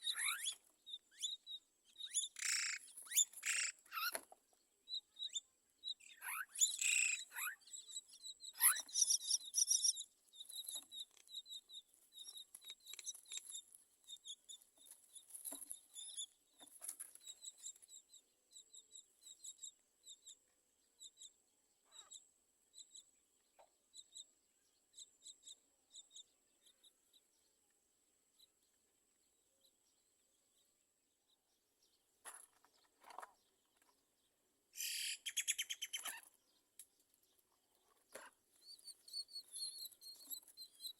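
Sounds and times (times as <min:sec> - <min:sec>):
myna birds chirping: 0:00.0 - 0:40.9.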